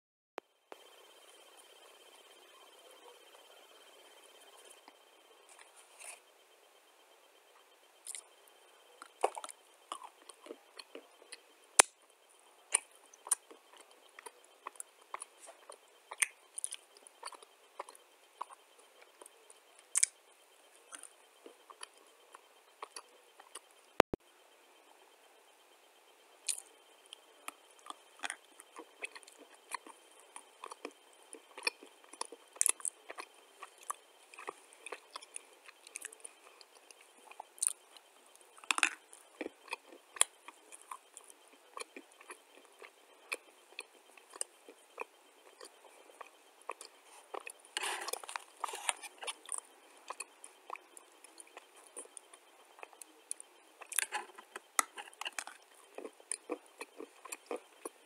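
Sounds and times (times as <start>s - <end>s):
dry clay being chewed: 0.7s - 6.4s, 7.5s - 24.0s, 26.4s - 58.0s.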